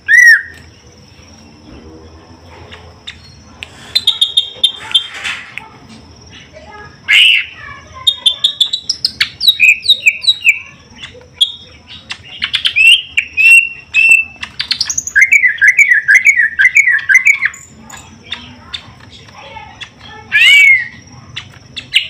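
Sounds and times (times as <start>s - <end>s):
birds calling with chips and whistles: 0.0s - 1.8s, 2.6s - 22.0s
rapid bird warbling: 3.0s - 5.6s, 6.3s - 22.0s.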